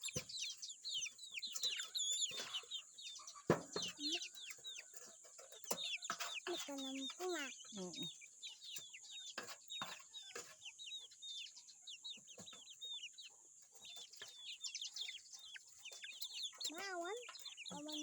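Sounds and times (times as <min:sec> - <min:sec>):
chickens peeping: 0:00.0 - 0:18.0.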